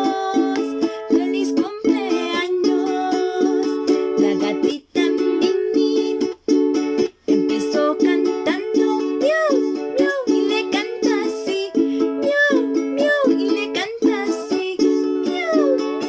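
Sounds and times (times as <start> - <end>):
instrumental children's song: 0.0 - 16.0.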